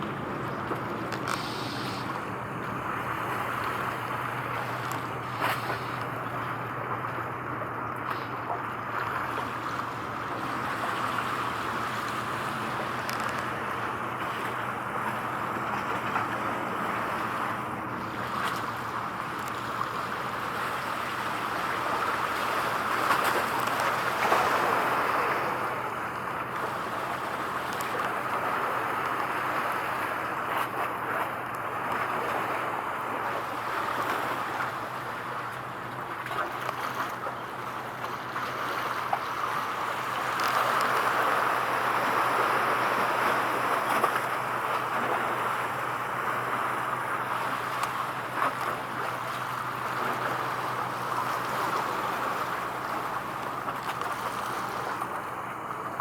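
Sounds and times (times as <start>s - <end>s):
low even hum: 0.0s - 56.0s
water: 0.0s - 56.0s
wind: 0.0s - 56.0s.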